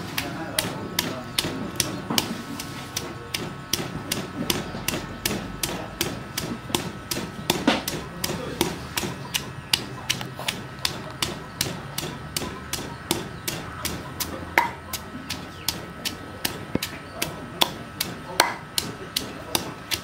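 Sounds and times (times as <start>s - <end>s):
pestle pounding in stone mortar: 0.0s - 20.0s.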